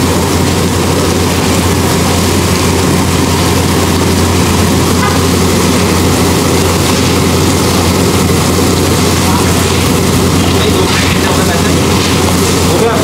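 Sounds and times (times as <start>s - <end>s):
burner low roar: 0.0s - 13.0s
onion and tomato sizzling: 0.0s - 13.0s.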